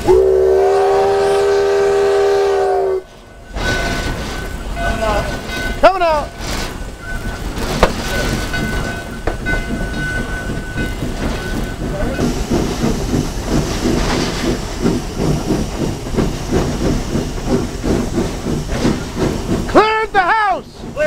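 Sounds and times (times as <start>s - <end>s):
rhythmic steam engine pulsing: 0.0s - 21.0s
steam hissing: 0.0s - 21.0s.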